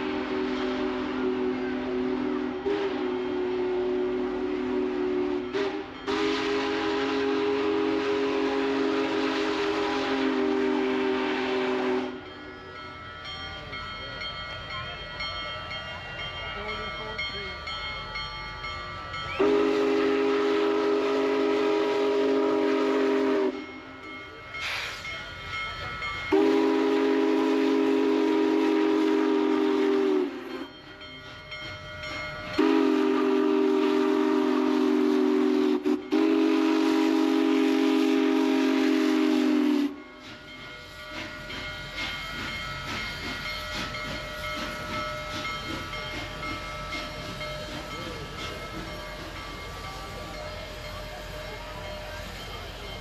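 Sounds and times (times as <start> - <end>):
steam locomotive whistle: 0.0 - 12.4, 19.1 - 23.9, 26.3 - 30.8, 32.0 - 53.0.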